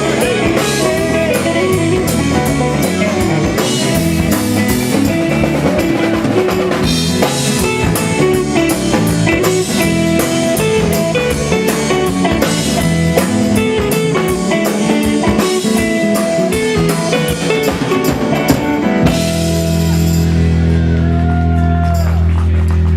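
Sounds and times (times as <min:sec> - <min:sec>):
drum kit with rimshots: 0:00.0 - 0:21.0
bass guitar: 0:00.0 - 0:22.9
strummed guitars: 0:00.0 - 0:22.9.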